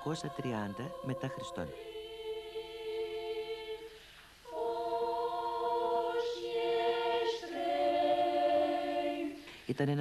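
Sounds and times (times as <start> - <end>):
choir singing held chords: 0.0 - 9.6.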